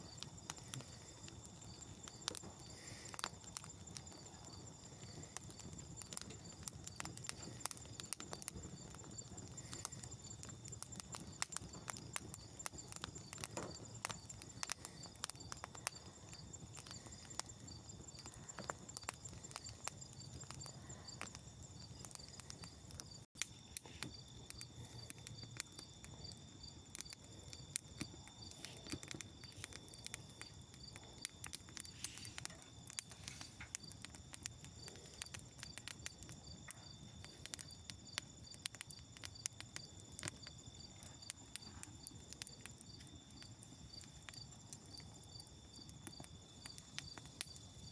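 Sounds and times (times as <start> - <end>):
campfire crackling and popping: 0.0 - 47.9
insects chirring: 0.0 - 47.9.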